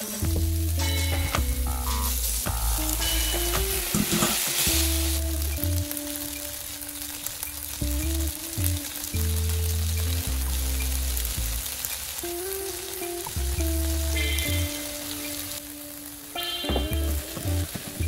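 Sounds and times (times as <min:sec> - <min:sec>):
background music with bass line: 0:00.0 - 0:18.0
food sizzling in a pan: 0:00.0 - 0:18.0.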